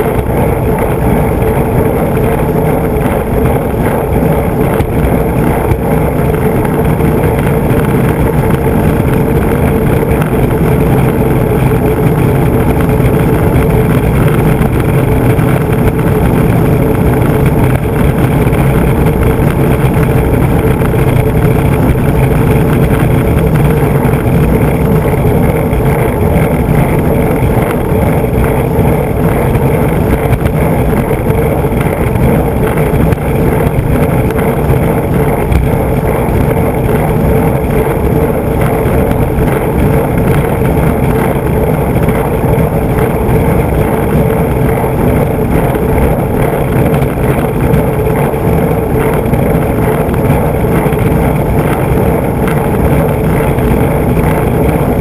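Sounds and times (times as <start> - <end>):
skateboard wheels rolling on asphalt: 0.0 - 55.0.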